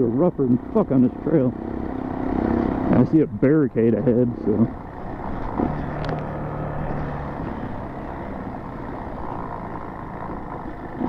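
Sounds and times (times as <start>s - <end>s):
motorcycle engine running: 0.0s - 11.0s
wind: 0.0s - 11.0s.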